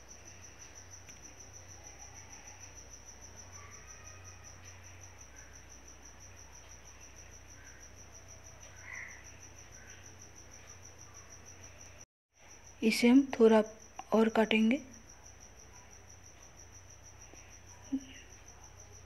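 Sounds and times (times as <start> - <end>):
cricket chirping: 0.0 - 19.0.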